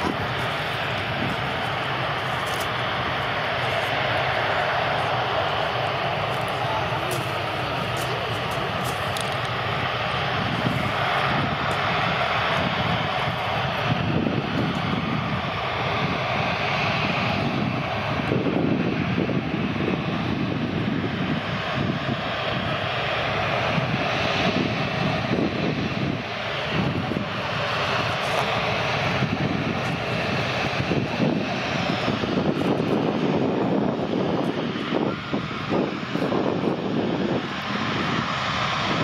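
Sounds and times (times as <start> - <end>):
jet engines rumbling and whining: 0.0 - 39.0.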